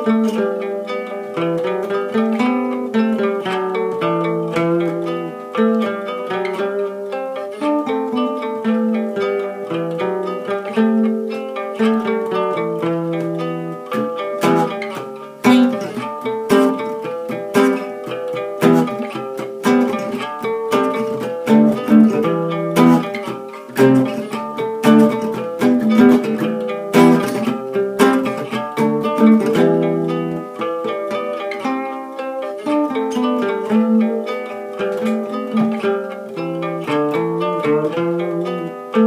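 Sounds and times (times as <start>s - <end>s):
acoustic guitar picked and strummed: 0.0s - 39.0s.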